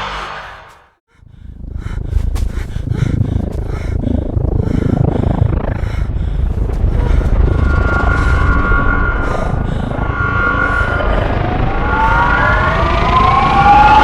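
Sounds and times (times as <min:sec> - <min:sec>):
deep rumble: 0:00.0 - 0:14.0.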